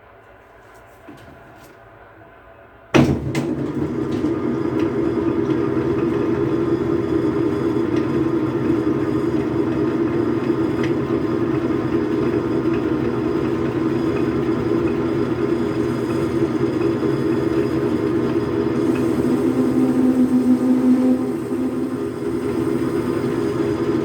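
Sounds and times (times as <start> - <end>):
lathe motor humming: 3.8 - 24.0.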